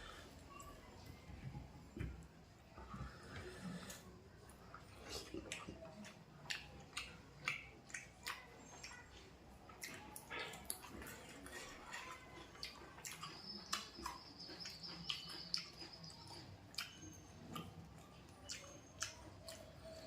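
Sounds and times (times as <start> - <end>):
wet chewing and lip smacking: 3.3 - 20.0.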